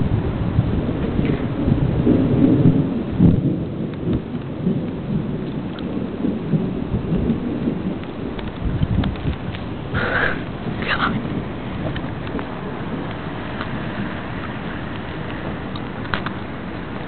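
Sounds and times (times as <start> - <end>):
rain falling: 0.0 - 17.0
thunder rumbling: 0.0 - 17.0.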